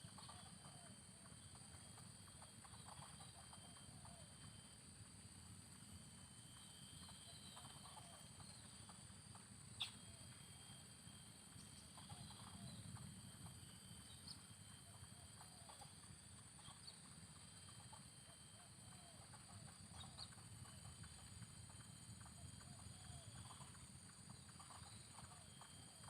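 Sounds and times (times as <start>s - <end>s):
faint high-pitched hum: 0.0s - 26.0s.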